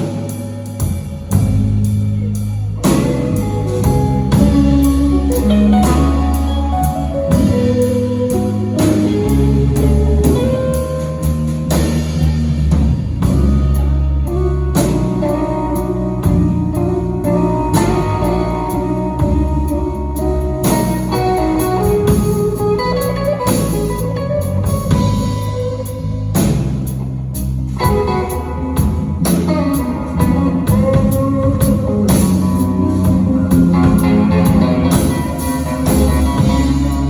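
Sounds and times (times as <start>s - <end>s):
bass guitar: 0.0s - 37.0s
drum kit: 0.0s - 37.0s
electric guitars: 0.0s - 37.0s.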